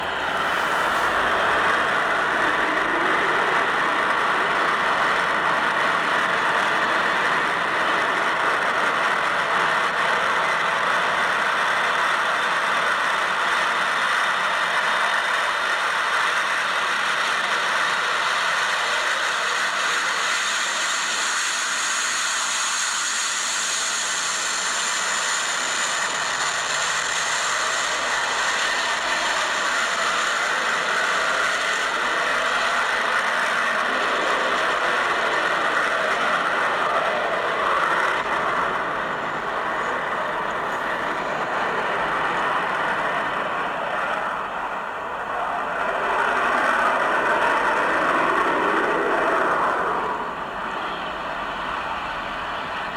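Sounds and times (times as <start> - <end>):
jet engine hiss and whine: 0.0 - 52.9.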